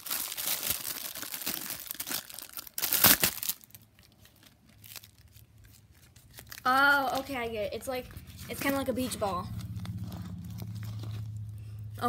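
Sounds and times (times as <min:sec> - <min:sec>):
plastic packaging crinkling and tearing: 0:00.0 - 0:11.6.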